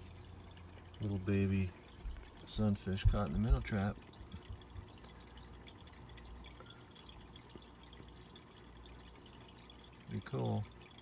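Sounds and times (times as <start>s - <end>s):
aquarium water trickling: 0.0s - 11.0s
water drips: 0.0s - 11.0s.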